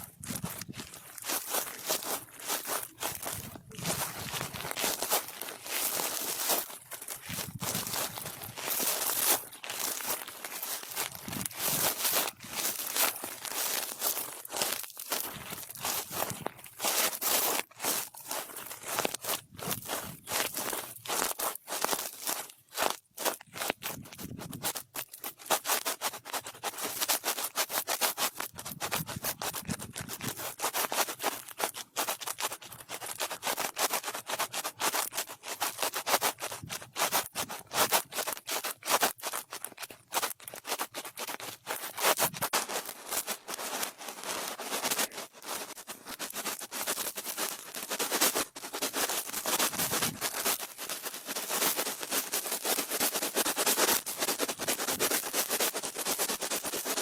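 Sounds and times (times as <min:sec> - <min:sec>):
brush rubbing on microphone: 0:00.0 - 0:57.0.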